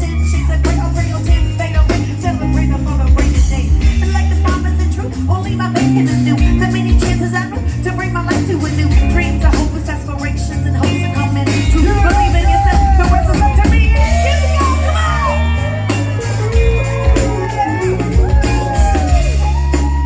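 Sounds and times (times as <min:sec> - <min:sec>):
heavy bass line: 0:00.0 - 0:20.0
live band playing groove: 0:00.0 - 0:20.0.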